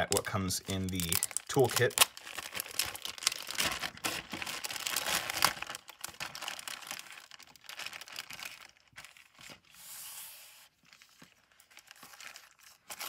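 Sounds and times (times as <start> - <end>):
plastic bag crinkling: 0.0 - 9.7, 10.9 - 13.0.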